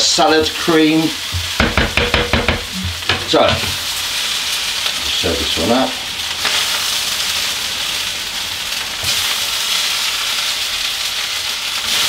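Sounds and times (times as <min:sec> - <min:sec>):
fried rice sizzling in a wok: 0:00.0 - 0:12.0.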